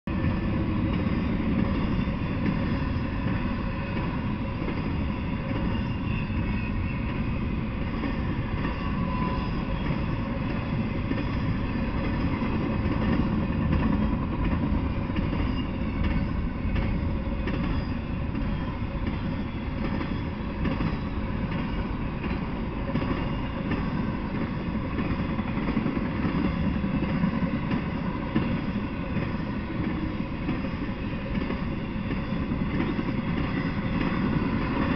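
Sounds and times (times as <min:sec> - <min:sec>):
freight train wheels rumbling: 0:00.1 - 0:34.9.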